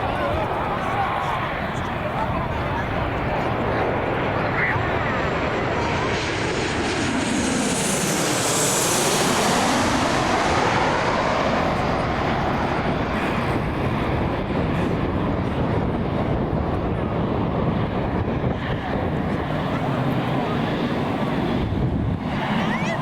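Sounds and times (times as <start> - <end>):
jet engines roaring overhead: 0.0 - 23.0.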